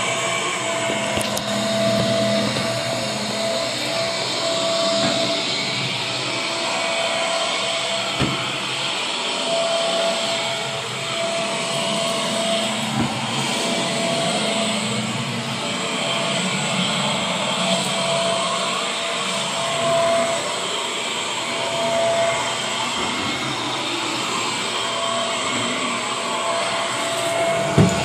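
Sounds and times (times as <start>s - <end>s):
vacuum cleaner on carpet: 0.0s - 28.0s.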